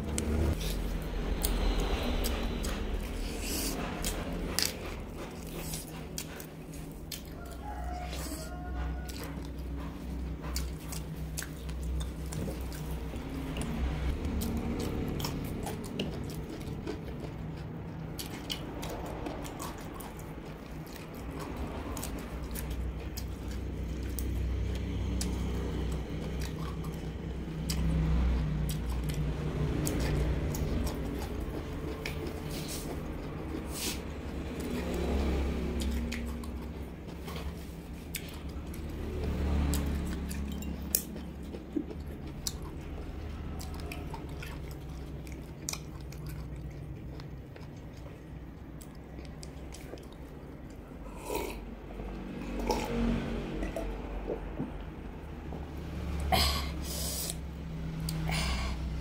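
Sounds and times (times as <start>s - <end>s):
chewing and biting: 0.0s - 56.3s, 57.2s - 59.0s.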